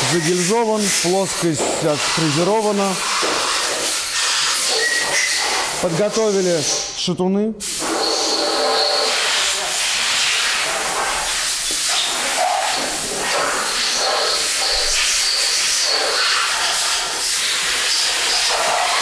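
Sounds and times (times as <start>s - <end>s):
steady loud hiss: 0.0s - 19.0s.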